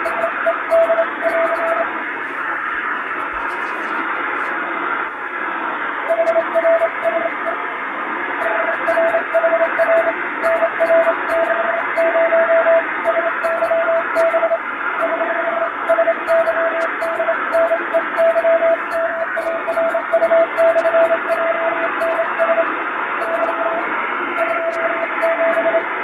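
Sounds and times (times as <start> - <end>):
morse code tone: 0.0 - 1.9, 6.0 - 7.6, 8.4 - 25.9
shortwave radio hiss: 0.0 - 26.0.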